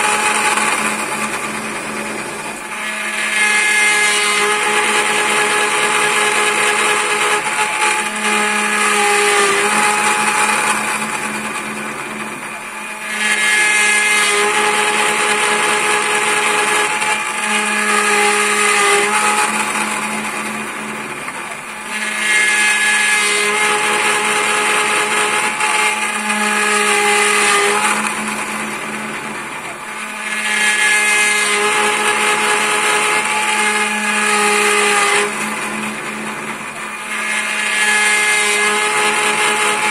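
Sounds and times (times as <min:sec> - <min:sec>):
lathe cutter cutting wood: 0:00.0 - 0:39.9.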